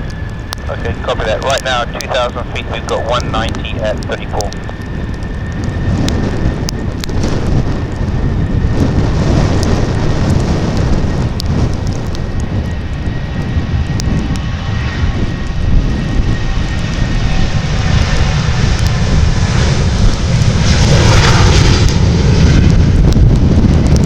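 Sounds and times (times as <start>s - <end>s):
aircraft engines passing: 0.0s - 24.0s
wind rumble on microphone: 0.0s - 24.0s.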